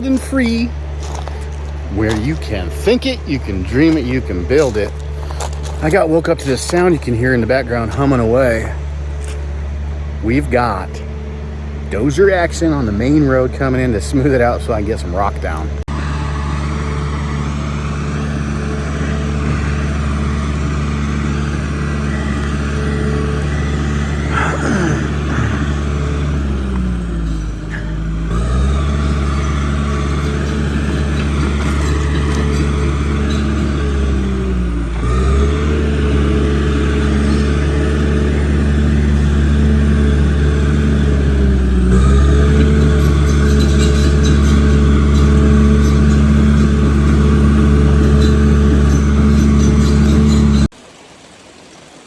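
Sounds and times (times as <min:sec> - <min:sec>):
bulldozer diesel engine running: 0:00.0 - 0:50.8.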